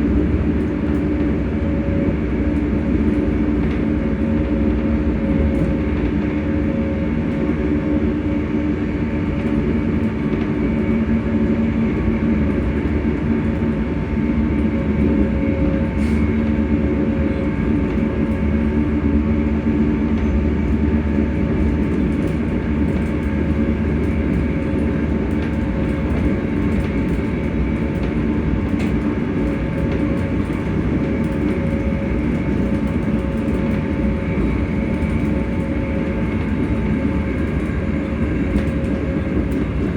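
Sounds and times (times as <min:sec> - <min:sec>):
train running gear rumble: 0:00.0 - 0:39.9
train traction motors humming: 0:00.0 - 0:39.9.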